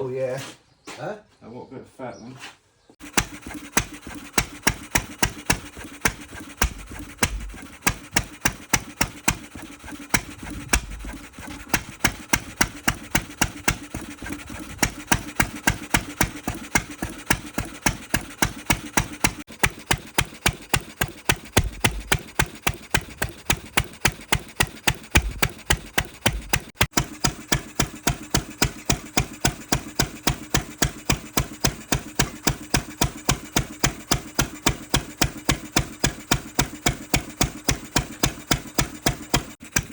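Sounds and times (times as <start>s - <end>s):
stationary engine knocking: 3.0s - 39.9s.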